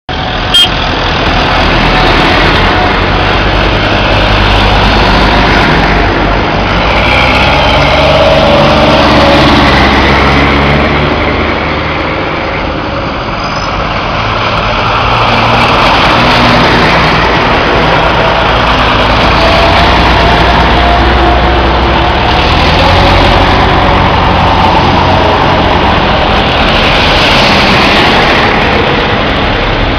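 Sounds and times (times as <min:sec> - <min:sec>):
diesel tractors driving past: 0:00.1 - 0:29.9.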